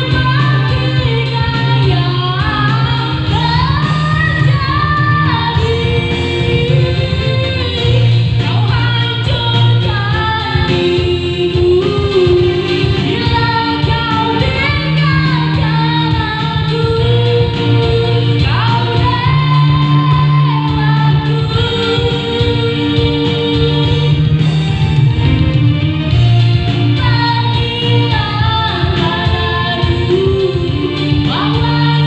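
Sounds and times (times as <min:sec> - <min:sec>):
woman singing into a microphone: 0:00.0 - 0:24.9, 0:26.6 - 0:32.0
electronic keyboard: 0:00.0 - 0:32.0.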